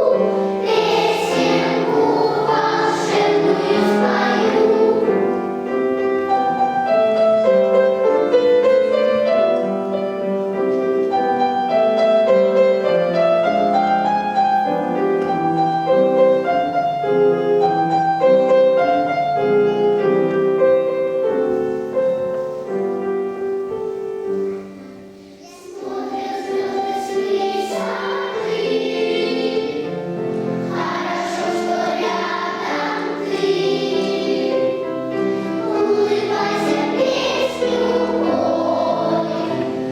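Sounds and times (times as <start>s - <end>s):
children's choir singing: 0.0s - 39.9s.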